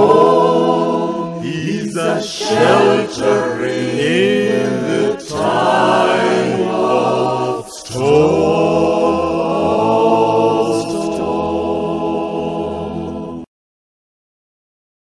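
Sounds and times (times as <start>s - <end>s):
choir singing in harmony: 0.0s - 13.5s.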